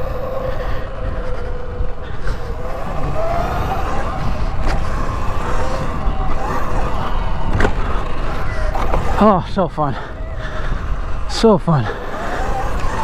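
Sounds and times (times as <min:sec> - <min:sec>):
electric dirt bike motor whining: 0:00.0 - 0:13.0
wind rumble on microphone: 0:00.0 - 0:13.0.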